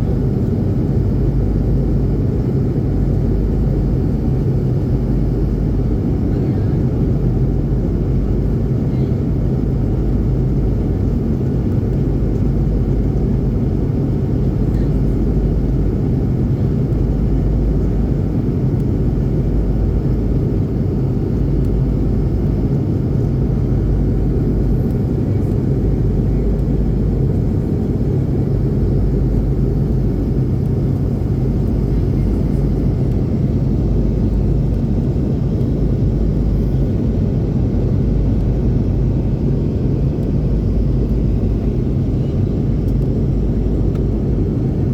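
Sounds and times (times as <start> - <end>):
airplane engine drone: 0.0 - 44.9.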